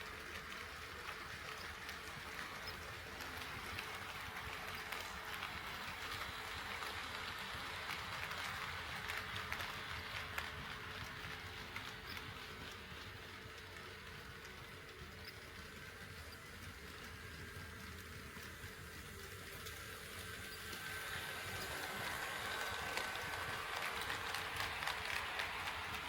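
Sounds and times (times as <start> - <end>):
model train wheels clicking: 0.0 - 26.0.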